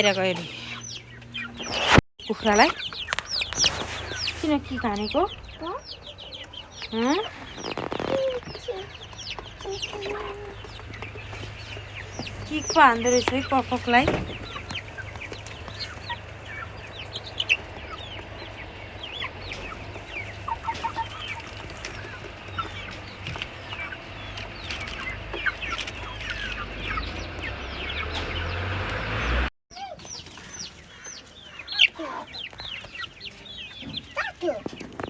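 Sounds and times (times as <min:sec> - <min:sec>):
chickens clucking and peeping: 0:00.0 - 0:35.0.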